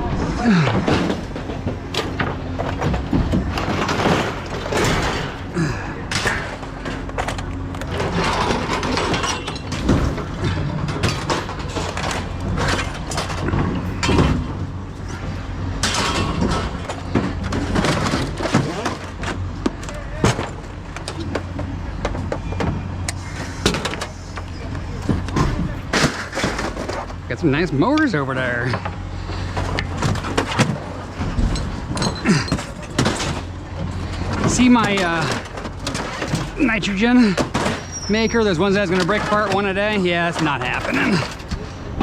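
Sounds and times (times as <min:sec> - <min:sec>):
scrap metal clanks and thuds: 0:00.0 - 0:42.0
steady low hum: 0:00.0 - 0:42.0.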